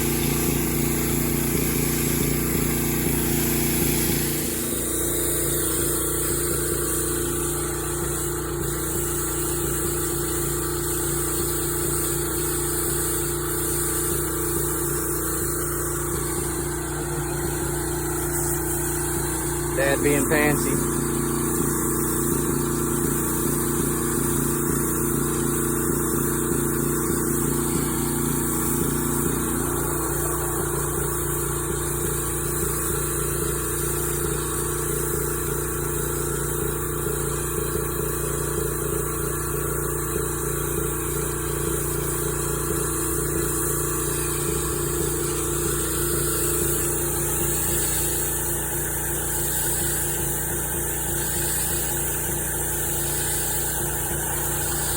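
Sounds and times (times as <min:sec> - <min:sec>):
pressure washer engine: 0:00.0 - 0:54.9
water spray hissing: 0:00.0 - 0:54.9.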